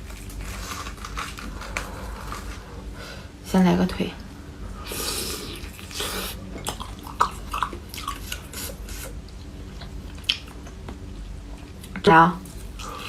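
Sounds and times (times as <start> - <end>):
crunchy chewing of fried chicken: 0.0 - 3.0, 4.8 - 13.0.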